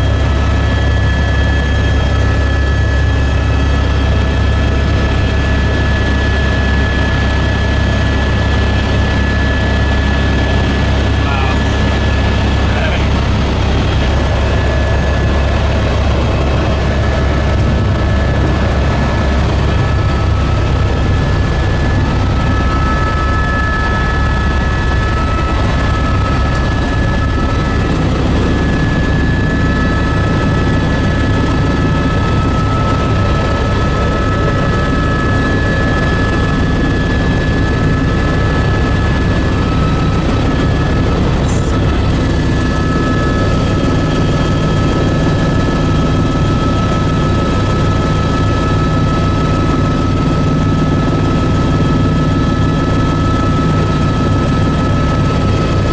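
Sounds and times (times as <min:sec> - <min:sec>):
helicopter rotor drone: 0:00.0 - 0:55.9
turbine whine: 0:00.0 - 0:55.9.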